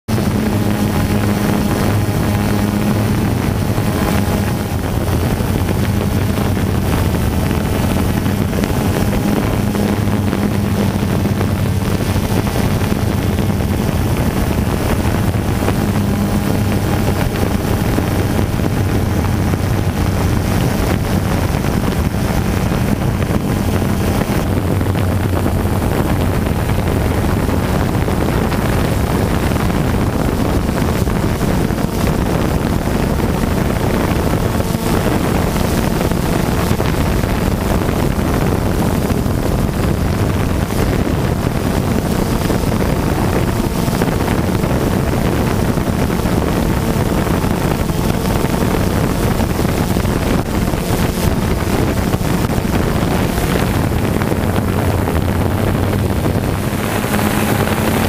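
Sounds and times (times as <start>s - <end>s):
low motor hum: 0.0s - 58.0s
wind noise on microphone: 0.0s - 58.0s.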